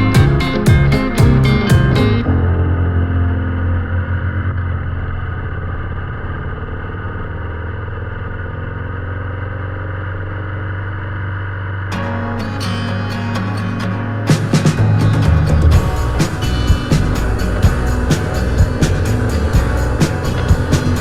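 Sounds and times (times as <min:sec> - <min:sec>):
motorcycle engine drone: 0:00.0 - 0:13.4, 0:14.3 - 0:21.0.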